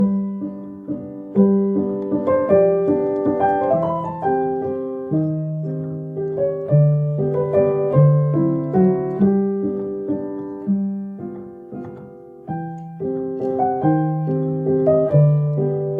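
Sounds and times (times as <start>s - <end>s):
slow gentle piano music: 0.0s - 15.9s.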